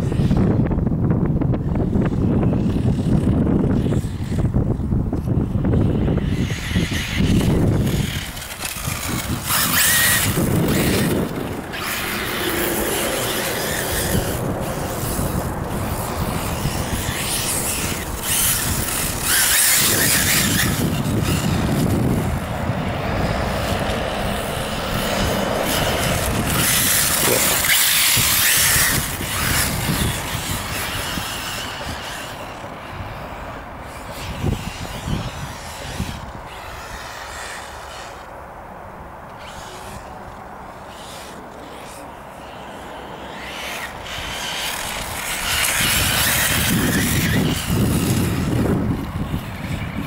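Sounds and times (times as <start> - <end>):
wind buffeting microphone: 0.0 - 38.2, 40.9 - 50.0
rc car driving on sand: 0.0 - 50.0.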